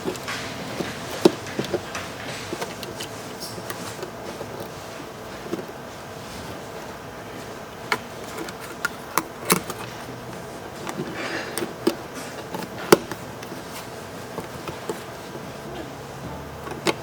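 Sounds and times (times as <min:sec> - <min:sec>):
plastic parts clicking: 0:00.0 - 0:05.8, 0:07.7 - 0:16.0, 0:16.6 - 0:17.0.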